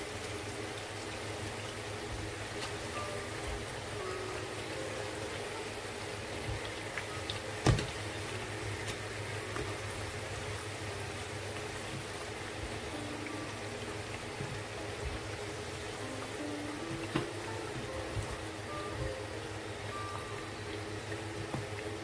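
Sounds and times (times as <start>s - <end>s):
oil sizzling in a frying pan: 0.0s - 22.0s.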